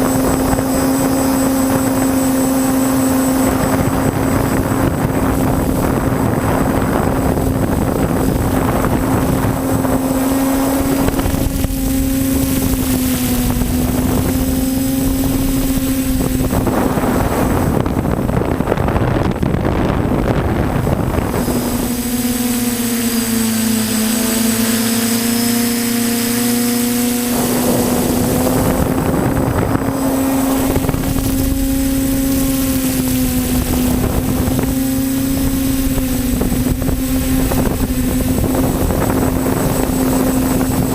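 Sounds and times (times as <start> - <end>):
quadcopter motors buzzing: 0.0 - 40.9
wind on microphone: 0.0 - 40.9.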